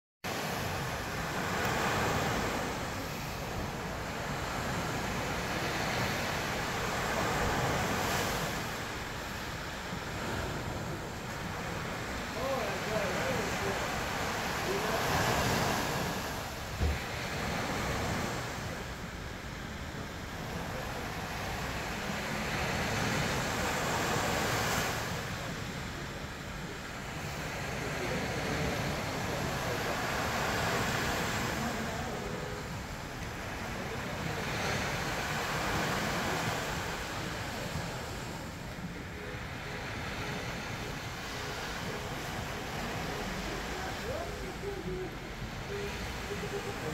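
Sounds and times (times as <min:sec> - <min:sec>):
ocean waves breaking on beach: 0:00.2 - 0:46.9.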